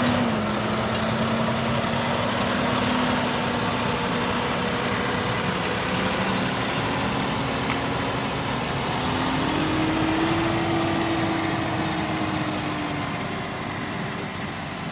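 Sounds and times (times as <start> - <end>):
tractor diesel engine under load: 0.0 - 14.9.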